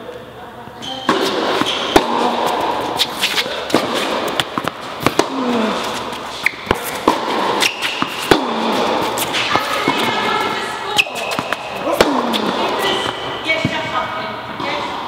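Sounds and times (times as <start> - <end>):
tennis balls struck by rackets: 0.9 - 13.9
tennis balls bouncing on court: 0.9 - 15.0.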